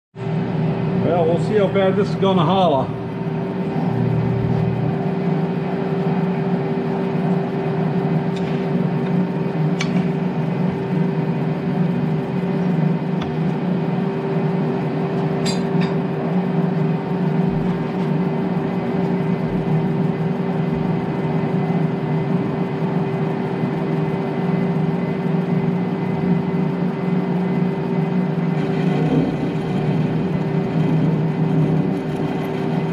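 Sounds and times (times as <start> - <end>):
metal lathe humming: 0.2 - 32.9.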